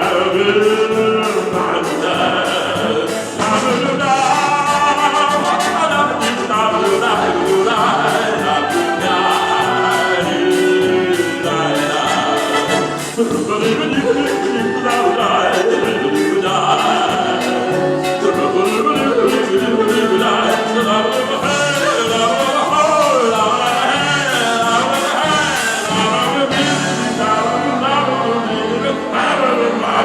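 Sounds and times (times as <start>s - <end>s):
musical accompaniment: 0.0s - 30.0s
wordless vocal melody: 0.0s - 30.0s.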